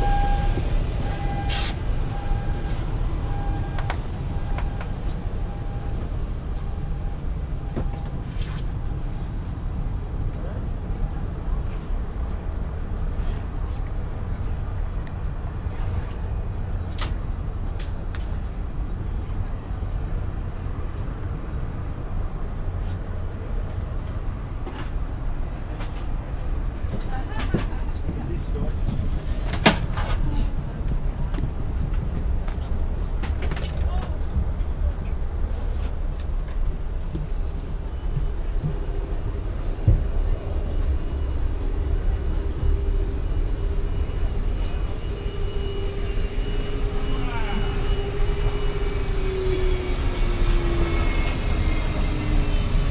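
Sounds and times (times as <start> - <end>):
steady hum: 0.0 - 28.7, 34.1 - 52.9
aircraft cabin rumble: 0.0 - 52.9.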